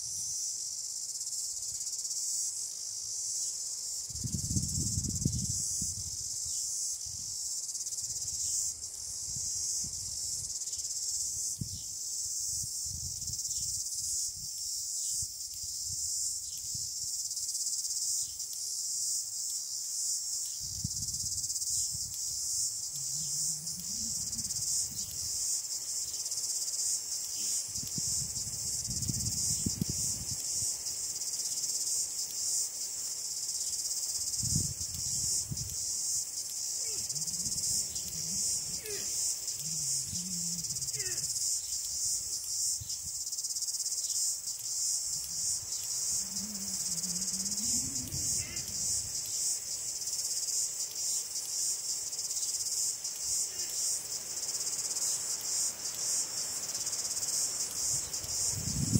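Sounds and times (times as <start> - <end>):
crickets chirring: 0.0 - 58.9.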